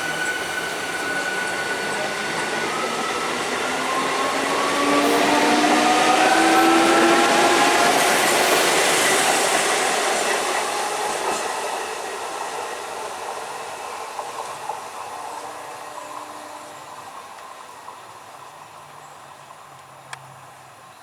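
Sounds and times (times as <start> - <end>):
train wheel and rail noise: 0.0 - 21.0.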